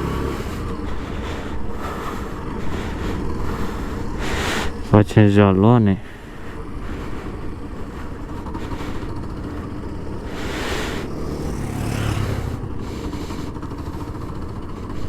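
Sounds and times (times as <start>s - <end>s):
small motorcycle engine running: 0.0s - 5.3s, 6.0s - 15.0s.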